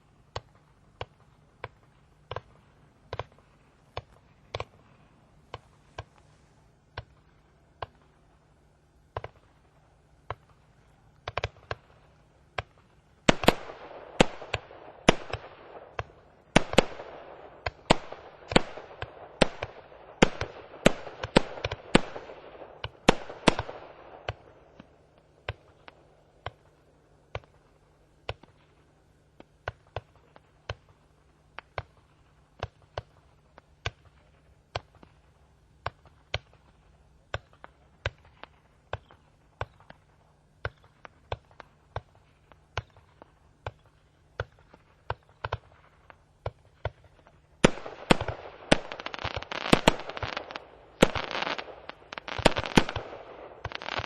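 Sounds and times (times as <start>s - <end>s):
fireworks bangs and crackle: 0.0s - 8.4s, 9.0s - 54.0s.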